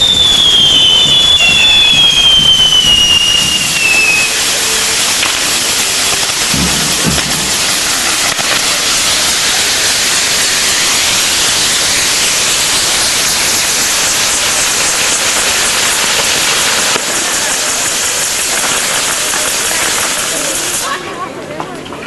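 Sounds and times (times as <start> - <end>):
fireworks hissing and crackling: 0.0 - 22.0.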